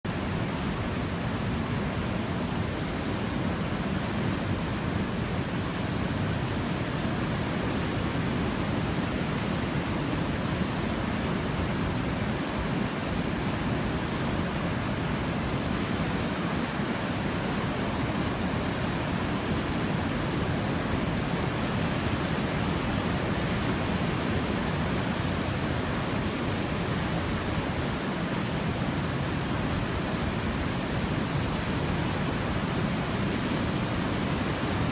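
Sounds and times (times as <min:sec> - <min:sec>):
strong wind: 0:00.0 - 0:34.9
surf rushing: 0:00.1 - 0:34.9.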